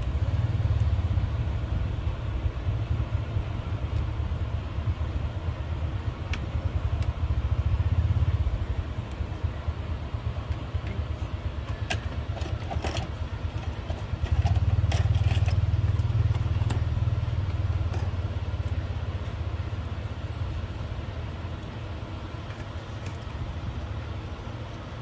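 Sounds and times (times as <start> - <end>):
low pulsing engine rumble: 0.0 - 25.0.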